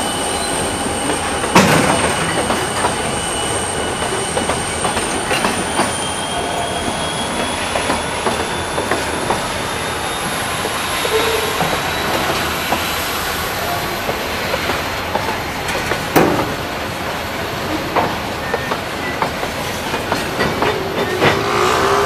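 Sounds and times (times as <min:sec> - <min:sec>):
train wheels squealing: 0:00.0 - 0:22.0
wheels clattering on rails: 0:00.4 - 0:13.0, 0:13.8 - 0:16.8, 0:17.5 - 0:22.0.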